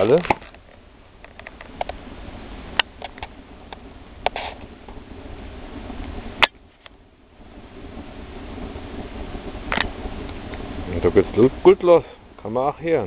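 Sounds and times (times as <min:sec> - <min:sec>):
log fire crackling and popping: 0:00.0 - 0:13.0
low steady fire rush: 0:00.0 - 0:13.0.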